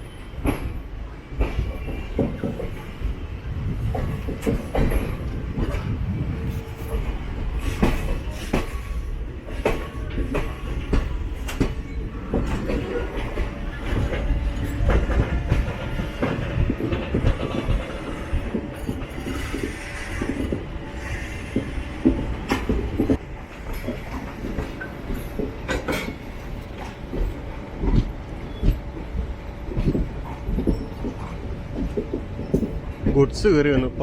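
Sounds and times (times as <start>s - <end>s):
train rumbling on rails: 0.0s - 34.0s
wheels clicking over rail joints: 0.4s - 33.9s.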